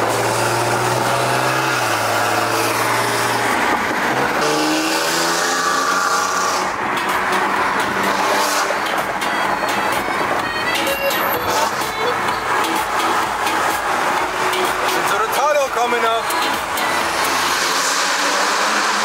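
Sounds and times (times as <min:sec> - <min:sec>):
car engine drone: 0:00.0 - 0:19.0
road noise: 0:00.0 - 0:19.0.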